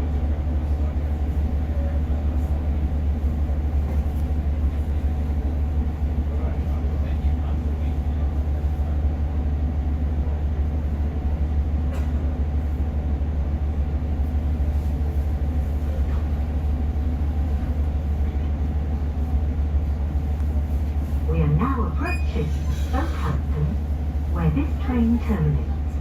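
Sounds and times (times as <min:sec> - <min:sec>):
train engine and wheels rumbling: 0:00.0 - 0:26.0.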